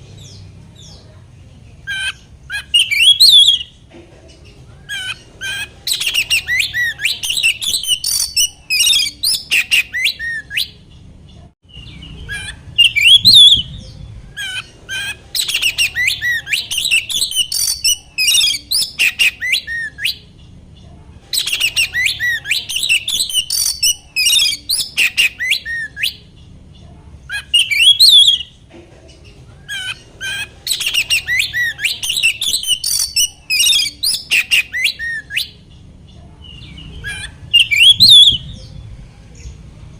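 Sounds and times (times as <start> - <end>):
bird singing whistles and chatter: 1.8 - 3.8, 4.8 - 28.6, 29.6 - 39.7.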